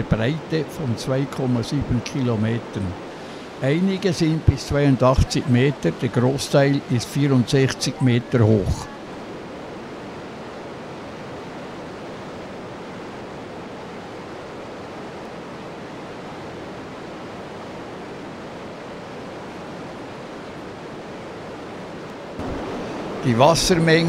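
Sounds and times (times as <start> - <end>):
large waterfall rushing: 0.0 - 24.0.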